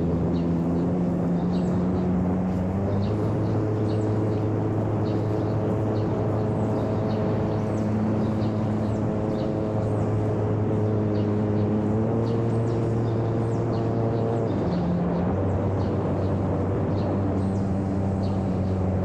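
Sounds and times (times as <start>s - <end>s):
model plane propeller drone: 0.0s - 19.0s.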